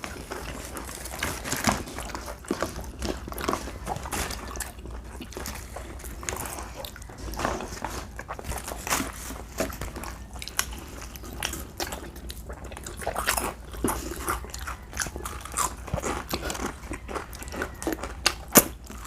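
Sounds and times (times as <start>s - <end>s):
people chewing food: 0.0s - 19.0s.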